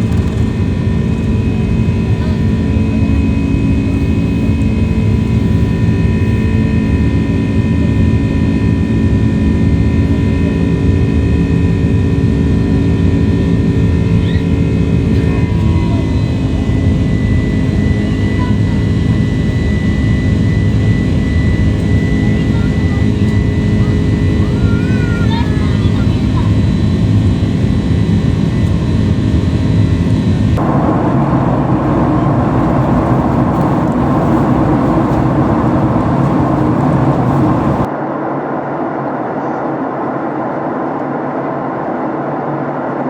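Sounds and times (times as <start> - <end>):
humming engine tones: 0.0 - 38.0
jet engine rushing: 0.0 - 43.0.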